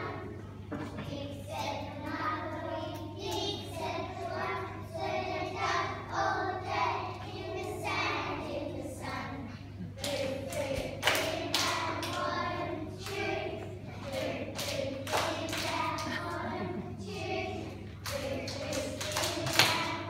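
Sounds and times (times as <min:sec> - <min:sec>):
children singing: 0:00.0 - 0:20.0
steady low hum: 0:00.0 - 0:20.0.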